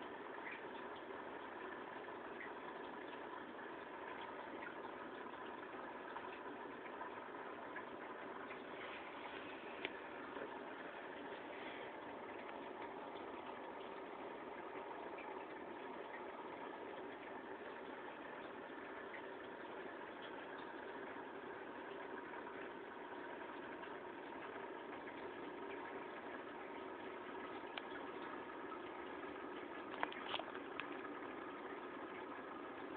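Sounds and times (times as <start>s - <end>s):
mechanical hum with hiss: 0.0s - 32.9s.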